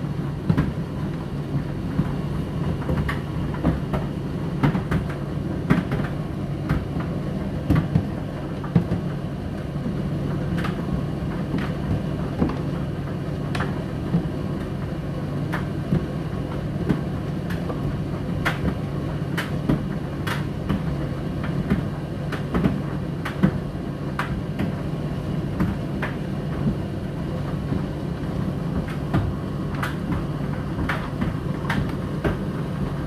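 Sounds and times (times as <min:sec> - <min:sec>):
tumble dryer motor hum: 0:00.0 - 0:33.0.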